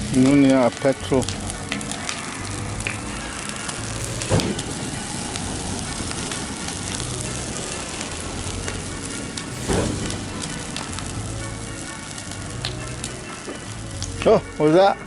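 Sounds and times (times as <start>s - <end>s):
bonfire crackling and hissing: 0.0s - 15.0s.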